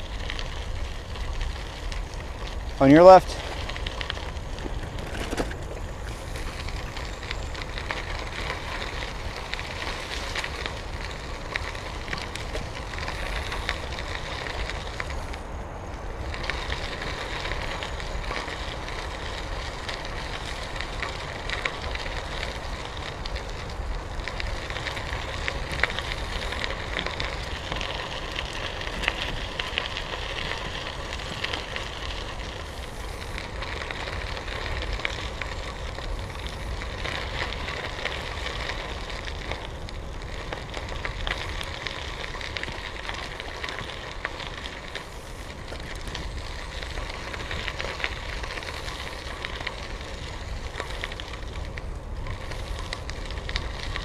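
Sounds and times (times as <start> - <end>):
bicycle tyres crunching on gravel: 0.0 - 54.0
wind rumble on microphone: 0.0 - 54.0.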